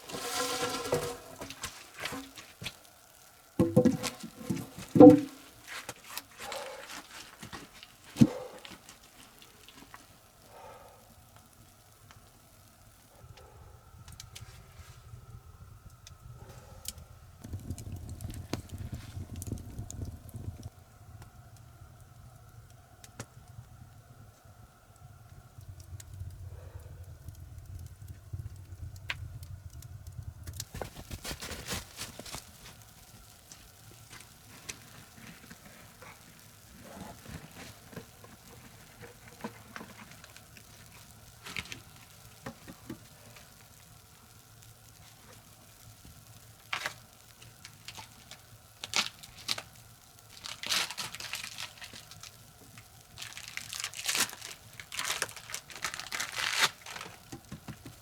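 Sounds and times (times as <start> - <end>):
crackling and rustling: 0.0 - 58.0.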